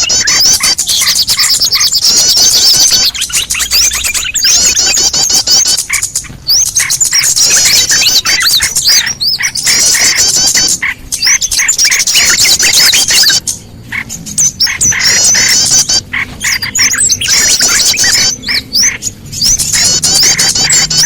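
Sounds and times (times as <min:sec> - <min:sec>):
small songbirds chirping: 0:00.0 - 0:21.0.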